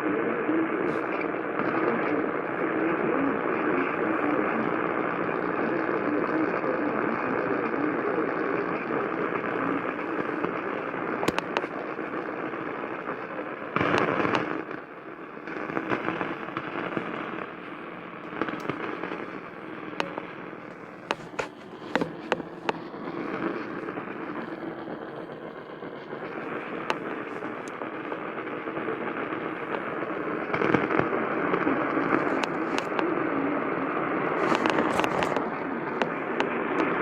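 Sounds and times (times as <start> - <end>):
radio static hiss: 0.0 - 37.0
sharp crackling pops: 0.8 - 37.0.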